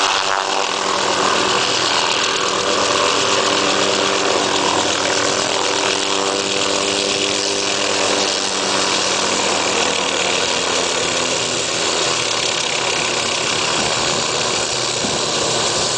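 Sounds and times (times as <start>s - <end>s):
helicopter engine and rotor running: 0.0s - 15.9s.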